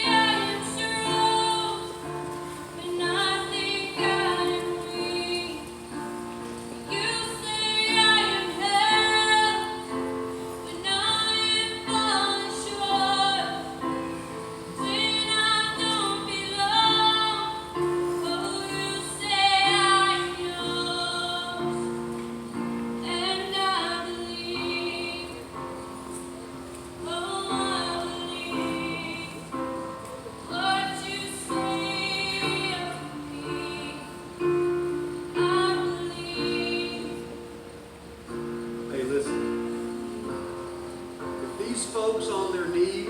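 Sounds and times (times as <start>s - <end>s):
woman singing with vibrato: 0.0s - 26.2s, 27.0s - 37.6s
held accompaniment notes: 0.0s - 43.0s.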